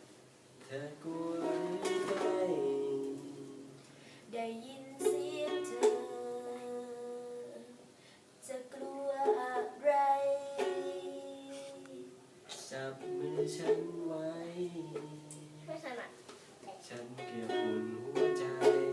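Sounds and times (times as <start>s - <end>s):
person singing long notes: 0.7s - 7.8s, 8.8s - 15.7s, 17.0s - 18.9s.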